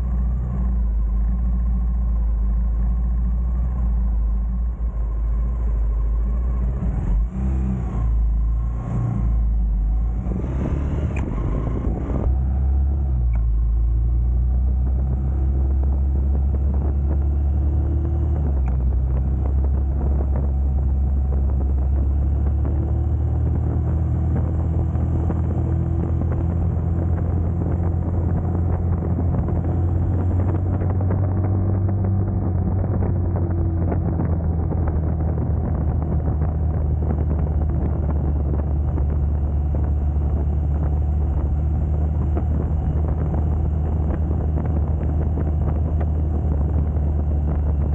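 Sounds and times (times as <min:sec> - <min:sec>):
motorcycle engine droning: 0:00.0 - 0:47.9.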